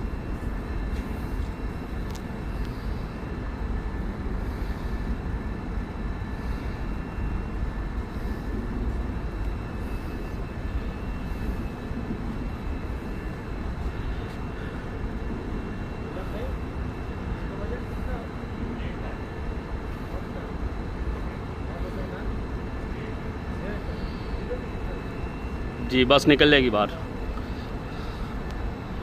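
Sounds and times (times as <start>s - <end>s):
faint high whine: 0.0s - 29.0s
machinery low rumble: 0.0s - 29.0s.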